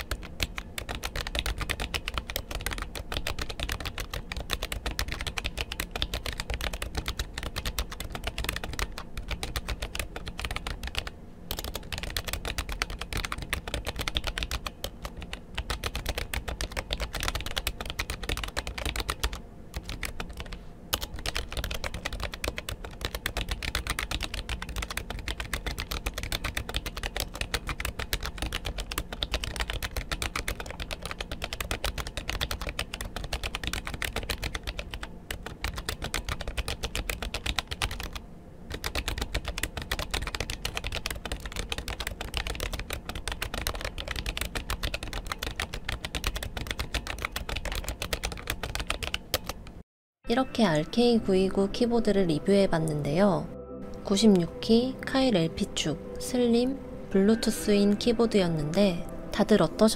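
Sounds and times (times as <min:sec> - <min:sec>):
mechanical keyboard typing: 0:00.0 - 0:49.8.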